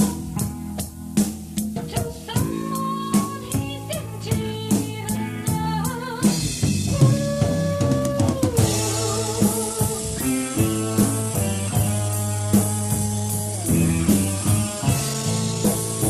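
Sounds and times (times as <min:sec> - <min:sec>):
drum kit cymbal beat: 0:00.0 - 0:16.0
guitar and bass notes: 0:00.0 - 0:16.0.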